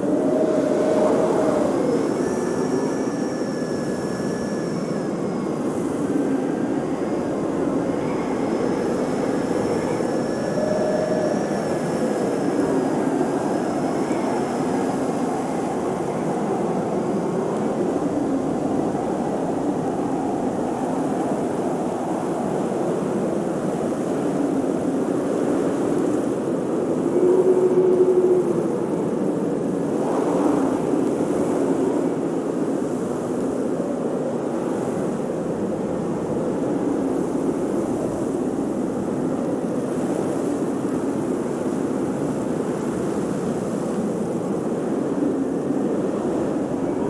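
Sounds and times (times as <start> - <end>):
blizzard wind howling: 0.0 - 47.0.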